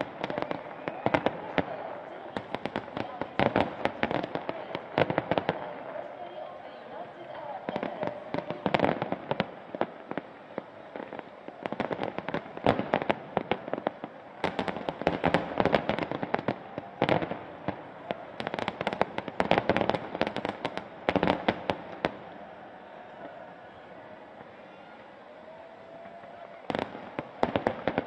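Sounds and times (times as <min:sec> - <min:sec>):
fireworks bursting with sharp cracks: 0:00.0 - 0:28.0.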